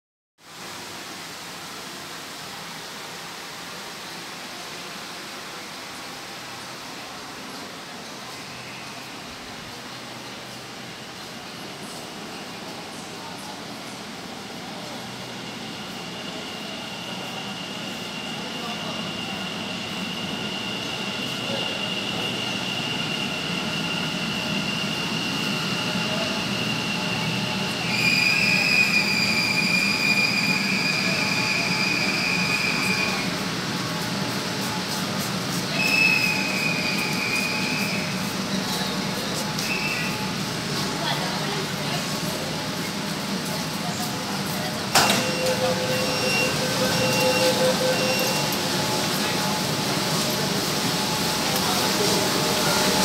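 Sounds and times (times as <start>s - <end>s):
metro train rumbling with whine: 0.4s - 53.0s.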